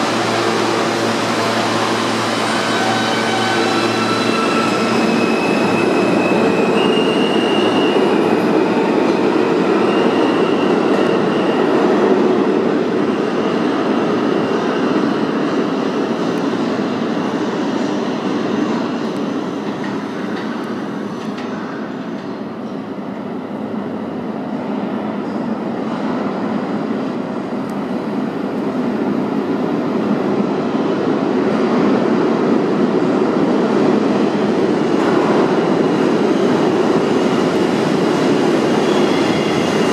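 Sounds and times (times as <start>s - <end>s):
subway train rumble: 0.0s - 39.9s.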